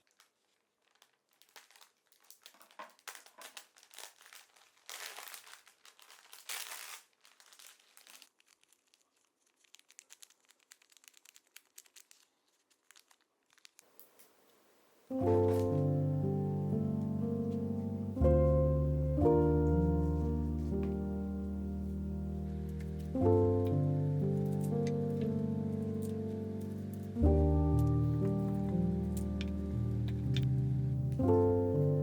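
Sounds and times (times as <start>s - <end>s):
crinkly material rustling: 0.0s - 32.0s
small crackles: 0.0s - 32.0s.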